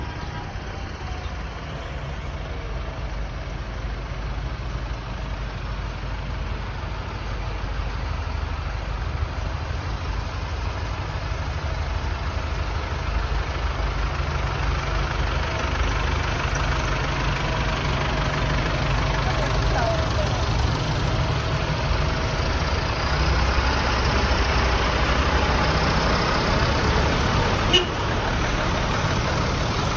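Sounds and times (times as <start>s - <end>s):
tractor engine idling: 0.0s - 29.9s.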